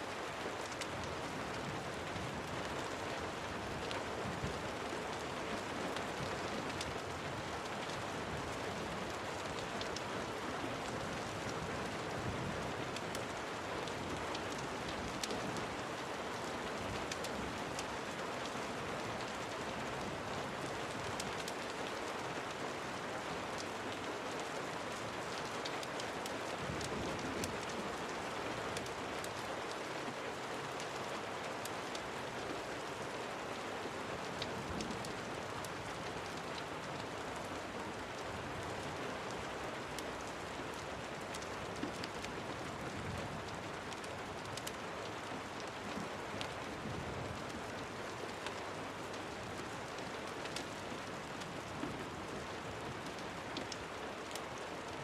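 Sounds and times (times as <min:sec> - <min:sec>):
sharp rain ticks: 0:00.0 - 0:55.0
steady rain hiss: 0:00.0 - 0:55.0.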